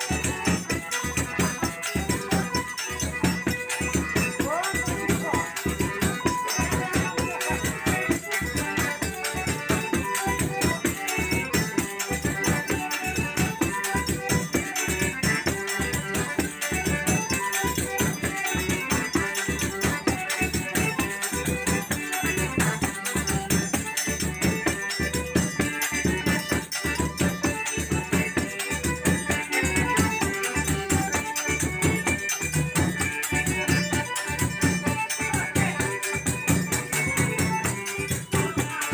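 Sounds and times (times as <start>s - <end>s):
shaken percussion: 0.0s - 38.9s.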